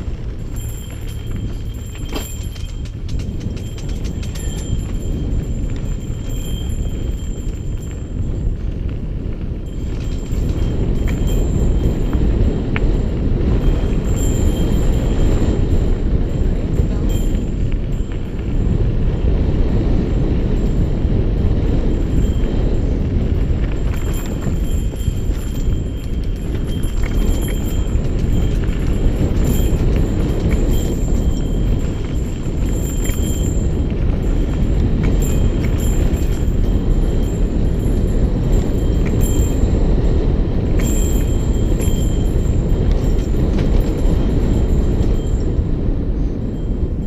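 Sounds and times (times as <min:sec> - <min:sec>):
bike tyres rolling over gravel: 0:00.0 - 0:47.0
wind buffeting microphone: 0:00.0 - 0:47.0.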